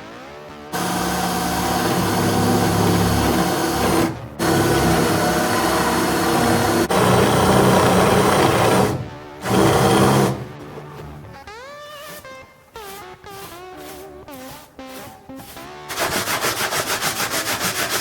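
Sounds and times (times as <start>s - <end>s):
woodworking power tool running: 0.8s - 11.4s, 13.4s - 18.0s.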